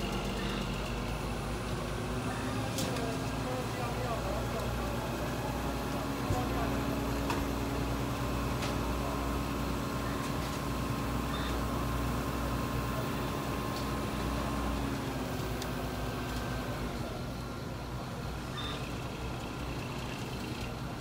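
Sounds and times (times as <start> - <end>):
heavy machinery drone: 0.0 - 21.0.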